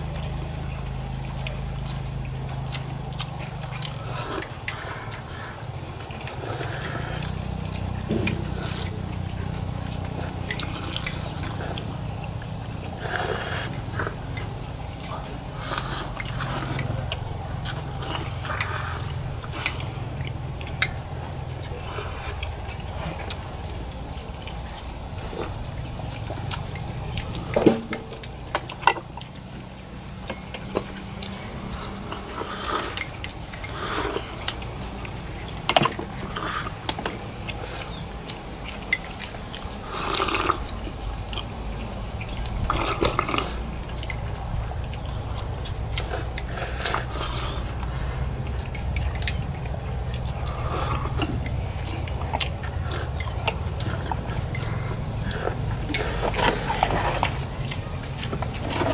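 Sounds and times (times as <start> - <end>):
bowls and chopsticks clinking: 0.0 - 23.8, 24.4 - 40.6, 42.2 - 58.9
slurping noodles and broth: 0.0 - 58.9
steady low hum: 0.0 - 58.9.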